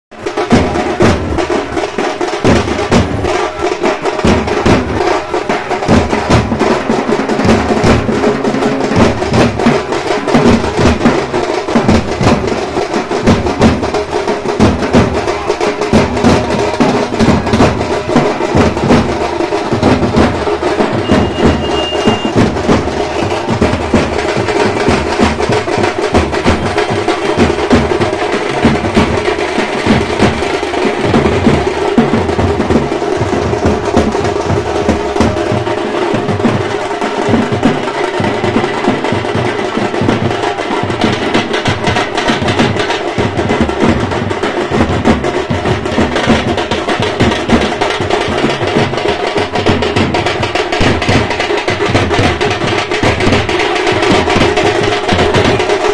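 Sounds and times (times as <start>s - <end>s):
drums in fast dance rhythm: 0.1s - 55.9s.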